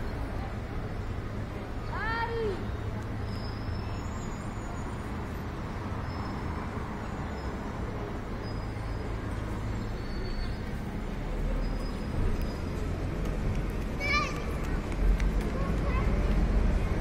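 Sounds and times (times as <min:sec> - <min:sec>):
road traffic hum: 0:00.0 - 0:17.0.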